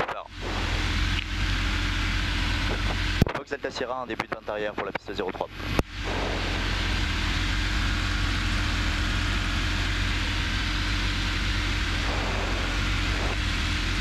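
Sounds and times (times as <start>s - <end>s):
airplane engine droning in cockpit: 0.0s - 14.0s.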